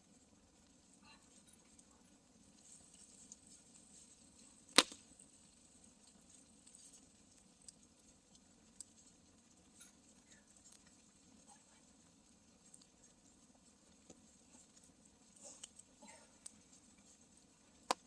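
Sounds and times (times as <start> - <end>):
campfire wood crackling: 0.0 - 18.0.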